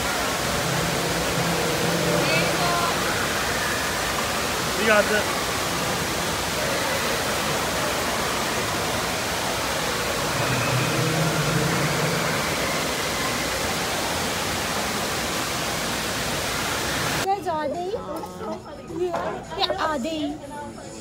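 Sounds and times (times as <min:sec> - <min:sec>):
rushing water indoors: 0:00.0 - 0:17.3.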